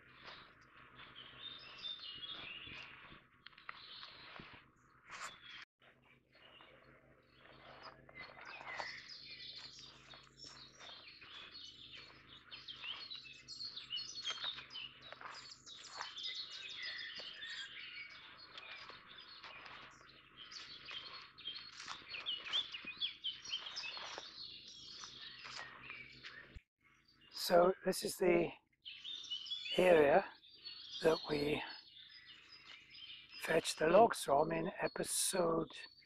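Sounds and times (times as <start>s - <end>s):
songbirds chorus: 0.0s - 36.0s.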